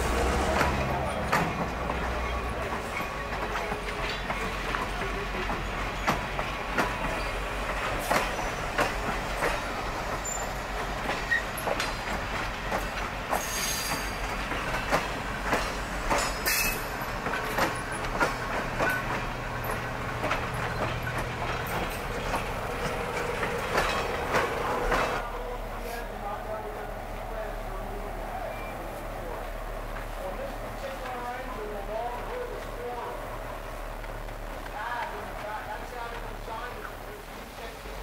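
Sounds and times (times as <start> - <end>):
train wheels clicking and clunking: 0.0 - 25.5, 27.9 - 37.9.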